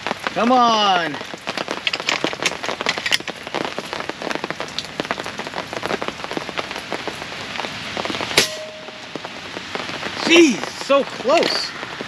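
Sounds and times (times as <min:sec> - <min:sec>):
rain on fabric tent: 0:00.0 - 0:12.0.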